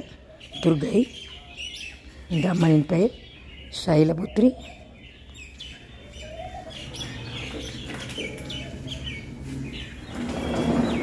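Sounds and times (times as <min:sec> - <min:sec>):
background noise: 0:00.0 - 0:11.0
birds chirping: 0:00.0 - 0:11.0.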